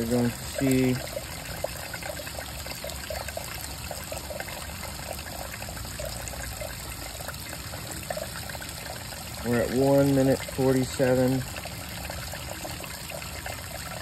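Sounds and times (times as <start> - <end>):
water trickling into plastic beaker: 0.0 - 14.0.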